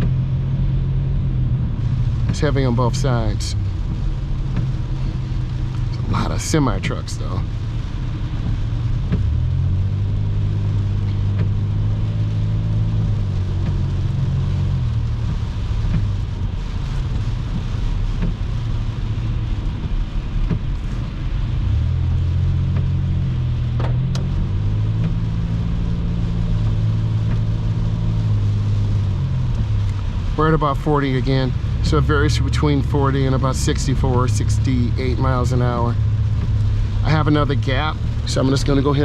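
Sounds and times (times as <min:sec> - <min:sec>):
car engine and road drone: 0:00.0 - 0:39.0
tyres hissing on wet pavement: 0:00.1 - 0:39.0.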